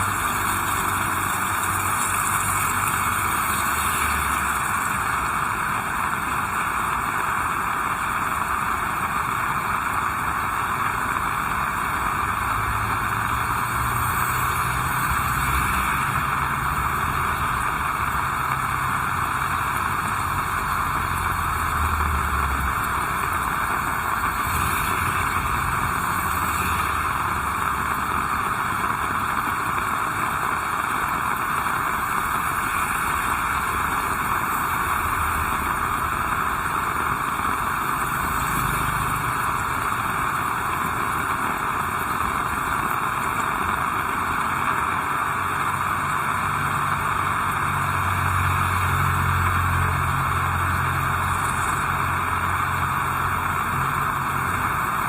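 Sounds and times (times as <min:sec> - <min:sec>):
heavy rain falling: 0:00.0 - 0:55.0
vehicle engine rumbling: 0:00.0 - 0:55.0.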